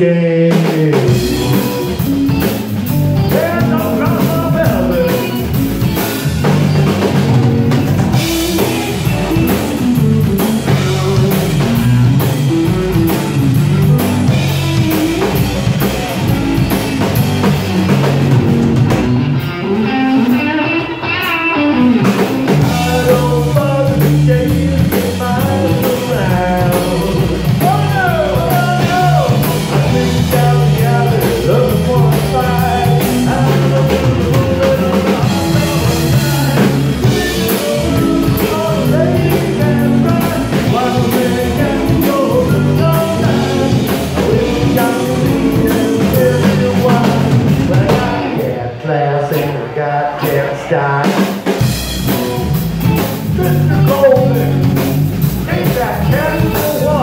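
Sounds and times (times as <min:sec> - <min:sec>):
drum kit: 0:00.0 - 0:57.0
electric guitars: 0:00.0 - 0:57.0
guitar bending notes: 0:01.1 - 0:48.4.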